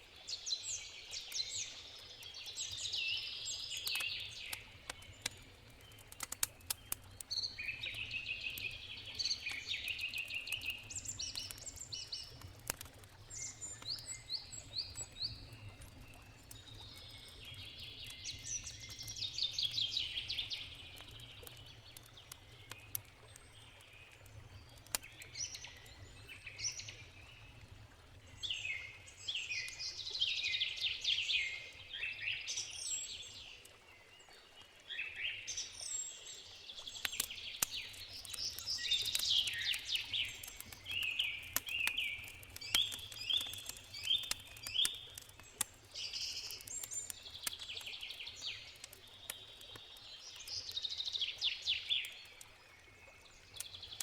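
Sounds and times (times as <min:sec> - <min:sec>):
campfire crackling: 0:00.0 - 0:31.1, 0:34.4 - 0:54.0
songbirds singing: 0:00.0 - 0:54.0.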